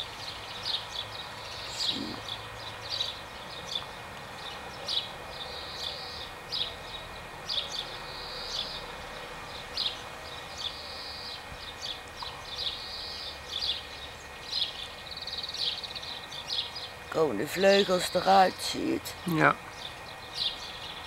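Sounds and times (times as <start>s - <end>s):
cicadas chirping and buzzing: 0.0s - 21.0s
cicadas high drone: 0.0s - 21.0s.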